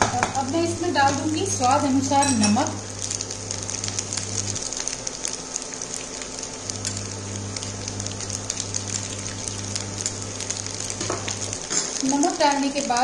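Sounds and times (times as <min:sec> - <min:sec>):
food sizzling in ghee: 0:00.0 - 0:13.0
low steady hum: 0:00.0 - 0:13.0.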